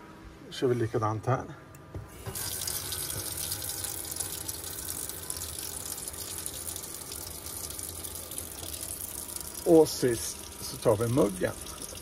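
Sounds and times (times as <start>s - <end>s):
water running from a tap: 2.1s - 12.0s.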